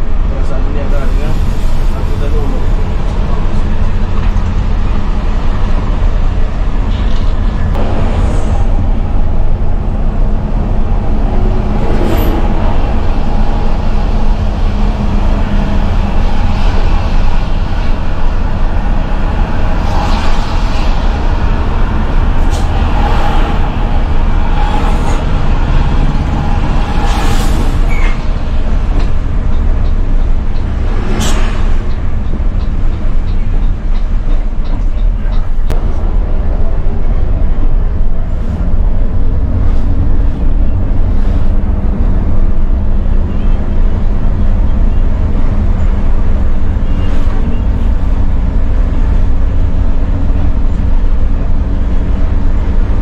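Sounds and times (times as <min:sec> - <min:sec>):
bus diesel engine droning: 0:00.0 - 0:53.0
road noise: 0:00.0 - 0:53.0.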